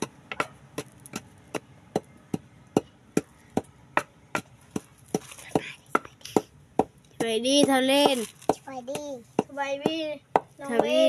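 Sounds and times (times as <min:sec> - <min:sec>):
pestle pounding in mortar: 0:00.0 - 0:11.0.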